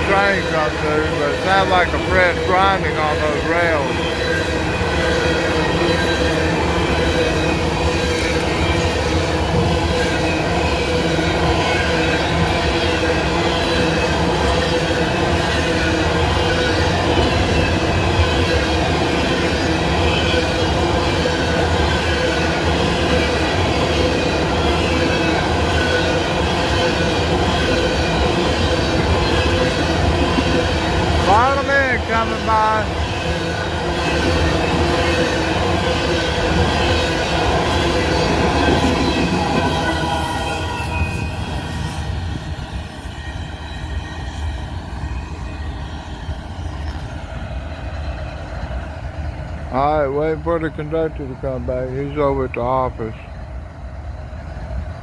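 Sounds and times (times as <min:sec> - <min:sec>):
rails squealing: 0:00.0 - 0:51.0
freight train wheels rumbling: 0:00.0 - 0:55.0.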